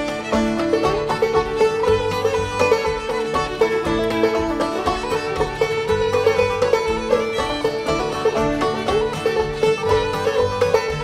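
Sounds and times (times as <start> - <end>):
bluegrass tune with banjo: 0.0 - 11.0.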